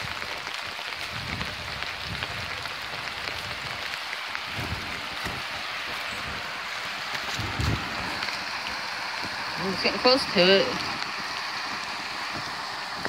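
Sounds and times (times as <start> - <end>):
footsteps on wet leafy path: 0.0 - 13.0
rain on an umbrella: 0.0 - 13.0.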